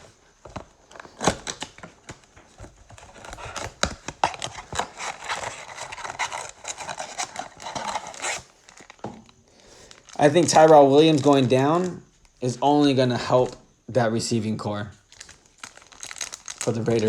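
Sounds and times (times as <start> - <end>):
wrappers crinkling: 0.5 - 12.5, 15.0 - 17.0.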